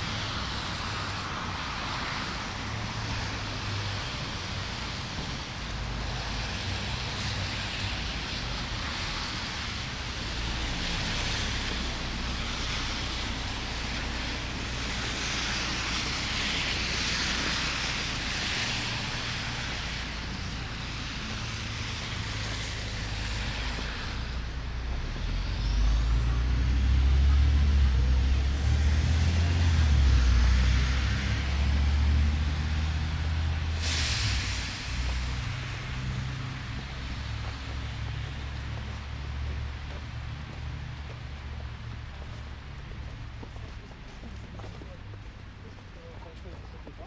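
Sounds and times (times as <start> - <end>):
heavy vehicle engine rumble: 0.0 - 47.0
traffic hiss: 0.0 - 47.0.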